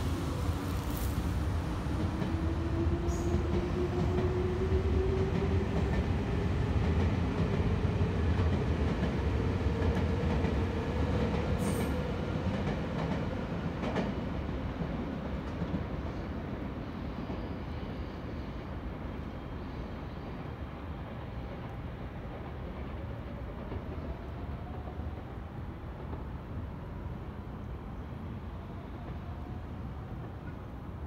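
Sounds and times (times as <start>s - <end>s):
electric train rumble and whine: 0.0s - 31.0s.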